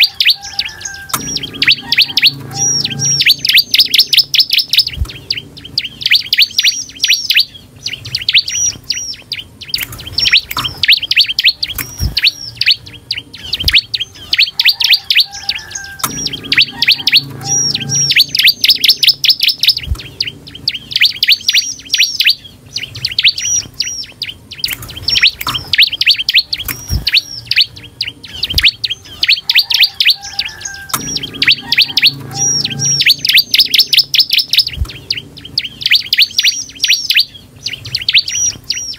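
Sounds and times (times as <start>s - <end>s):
bird song with high chirping: 0.0s - 38.9s
sharp bird clicks: 0.0s - 38.9s.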